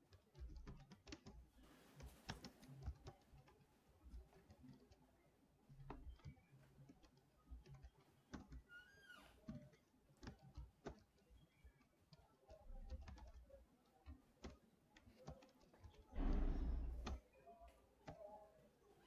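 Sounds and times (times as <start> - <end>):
faint keyboard typing: 0.0 - 19.0.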